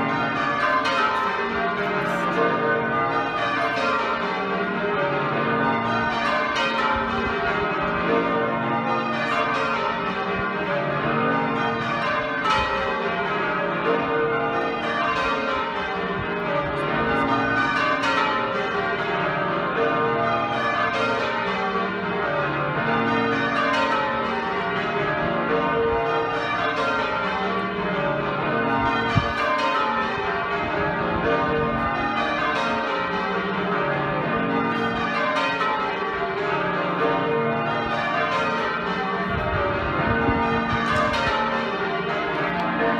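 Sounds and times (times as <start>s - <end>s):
church bells change ringing: 0.0s - 42.9s.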